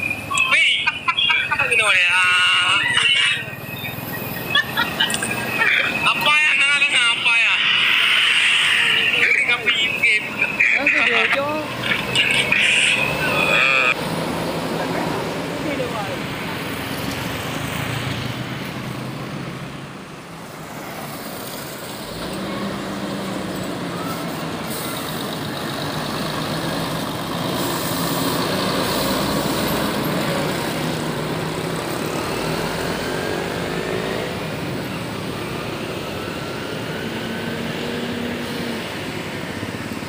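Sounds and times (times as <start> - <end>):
road traffic noise: 0.0 - 40.0.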